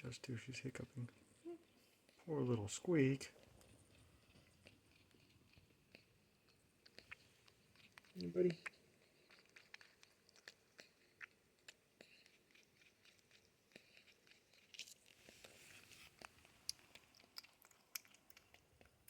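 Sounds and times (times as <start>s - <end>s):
soft rustle: 0.0s - 10.6s, 13.8s - 18.6s
faint small clicks and crunches: 3.2s - 19.0s.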